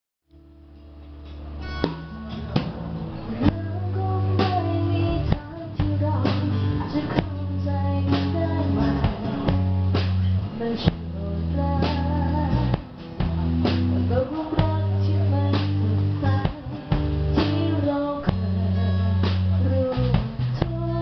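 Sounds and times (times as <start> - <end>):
low bass notes: 0.3 - 21.0
live band playing: 1.2 - 21.0
drum and cymbal hits: 1.3 - 11.2, 11.8 - 20.8.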